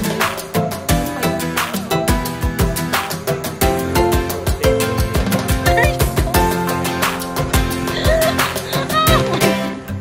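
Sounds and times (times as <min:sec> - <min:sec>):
percussion strikes: 0:00.0 - 0:09.8.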